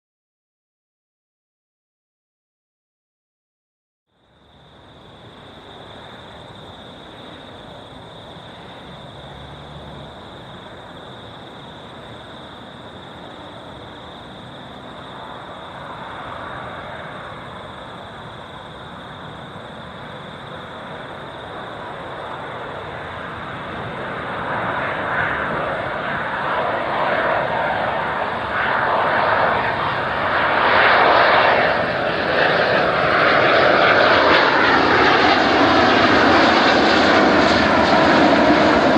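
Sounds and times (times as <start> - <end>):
jet airliner engines whining: 4.3 - 38.9.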